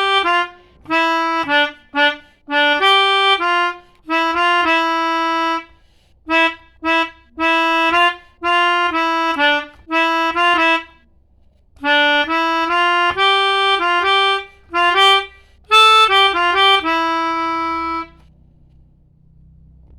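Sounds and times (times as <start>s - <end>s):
melodica playing quick reedy notes: 0.0s - 5.7s, 6.3s - 11.0s, 11.8s - 18.2s.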